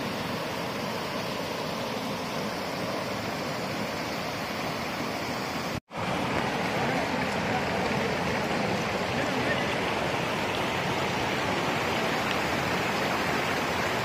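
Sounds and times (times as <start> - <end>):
small waterfall rushing: 0.0 - 14.0.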